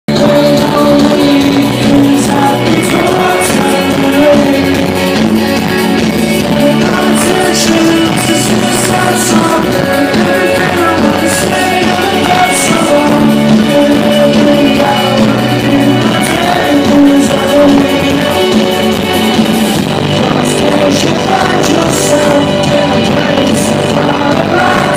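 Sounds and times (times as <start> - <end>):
person singing: 0.0 - 24.9
electric guitars: 0.1 - 24.9.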